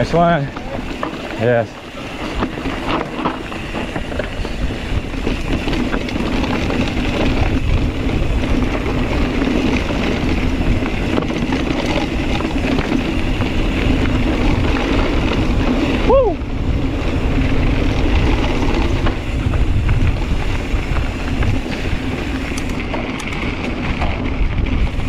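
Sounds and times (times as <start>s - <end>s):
bike rattling over bumps: 0.0s - 25.0s
tyres on dirt: 0.0s - 25.0s
wind rushing over microphone: 0.0s - 25.0s.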